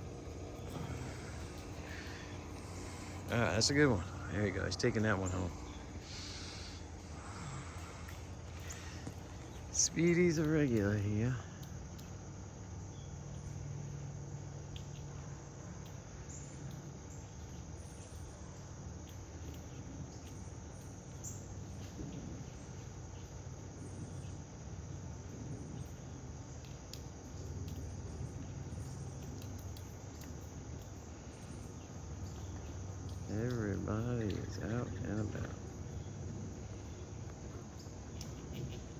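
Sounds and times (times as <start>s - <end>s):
crickets trilling: 0.0s - 38.9s
faint ticks: 0.0s - 38.9s
low steady rumble: 0.0s - 38.9s.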